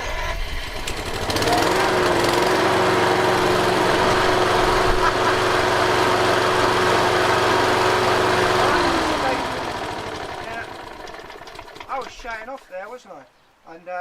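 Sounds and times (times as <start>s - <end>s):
lawn mower engine running: 0.0s - 12.3s.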